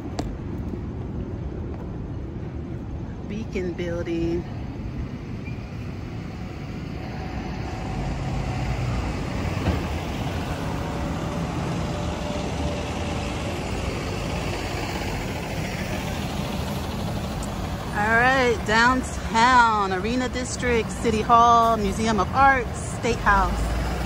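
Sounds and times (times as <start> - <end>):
road traffic passing: 0.0 - 24.0
truck engine hum: 0.0 - 24.0.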